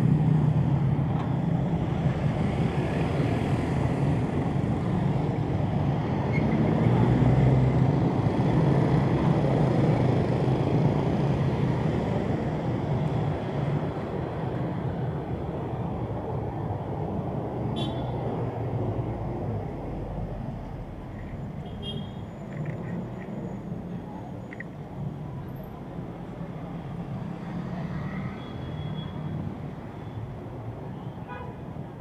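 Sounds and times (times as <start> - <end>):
cars and motorcycles passing: 0.0 - 32.0.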